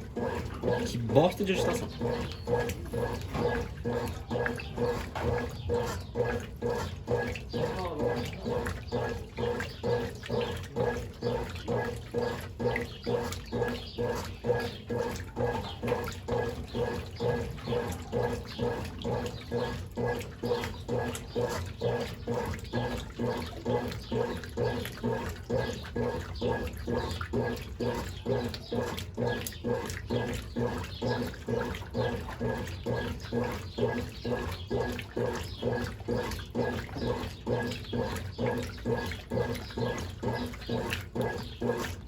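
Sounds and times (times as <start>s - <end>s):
motor hum: 0.0s - 42.0s
water sloshing in washing machine: 0.0s - 42.0s.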